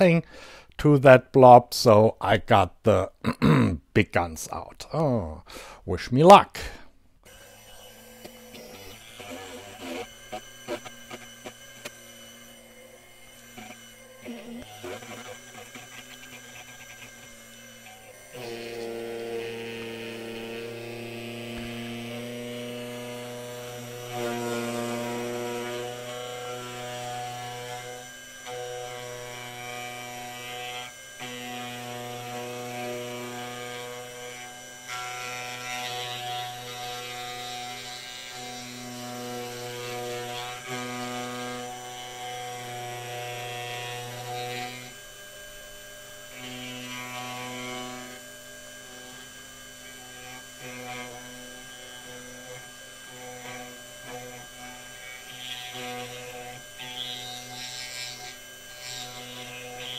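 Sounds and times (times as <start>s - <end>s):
milling machine cutter grinding: 6.6s - 59.9s.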